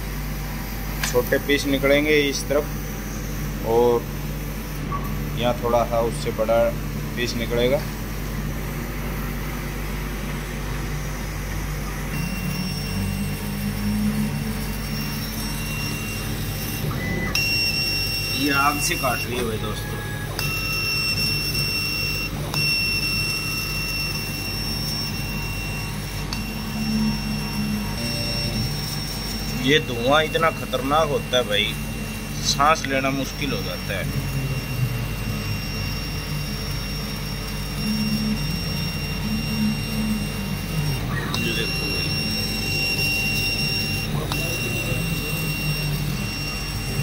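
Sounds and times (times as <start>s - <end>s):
fan motor humming: 0.0s - 47.0s
high-pitched machine whine: 0.0s - 47.0s.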